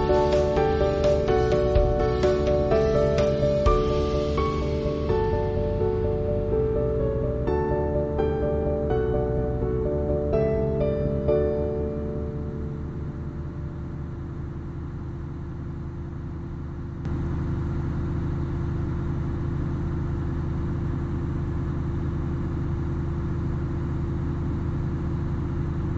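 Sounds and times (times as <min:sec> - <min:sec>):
diesel engine humming: 0:00.0 - 0:25.9.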